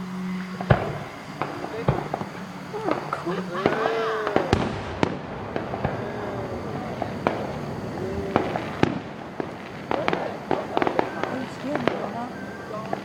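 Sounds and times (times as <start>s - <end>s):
fireworks bangs: 0.0s - 13.0s
background rumble: 0.3s - 13.0s.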